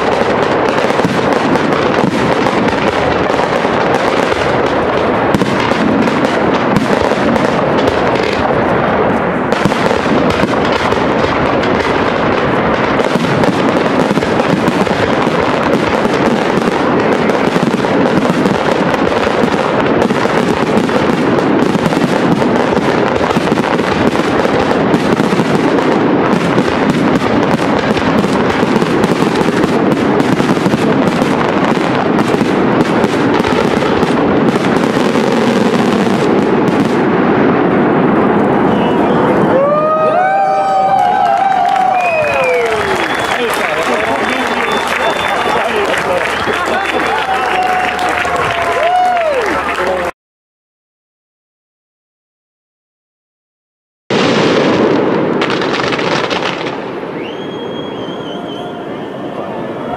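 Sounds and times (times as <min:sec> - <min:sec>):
fireworks bangs and crackling: 0:00.0 - 0:50.1, 0:54.1 - 0:59.9.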